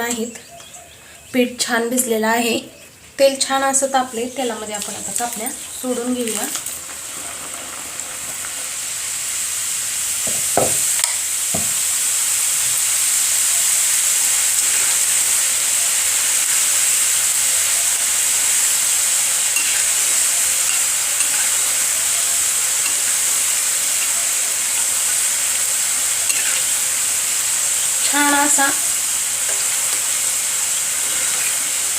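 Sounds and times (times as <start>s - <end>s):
dough sizzling in hot oil: 3.4s - 31.9s.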